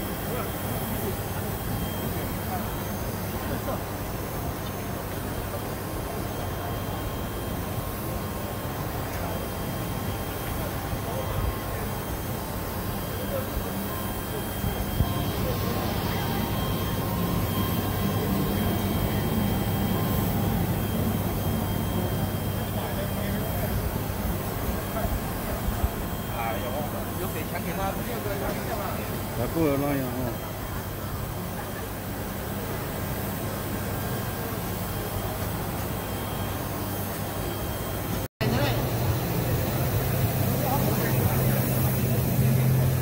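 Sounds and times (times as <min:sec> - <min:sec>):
machine humming with high whine: 0:00.0 - 0:43.0.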